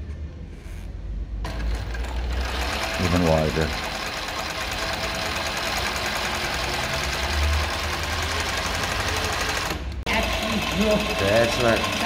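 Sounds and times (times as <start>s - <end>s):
sewing machine clattering: 1.5s - 12.0s.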